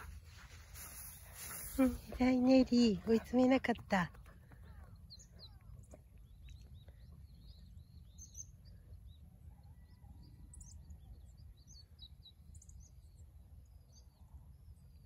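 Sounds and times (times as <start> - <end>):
faint small birds chirping: 0.0 - 15.0.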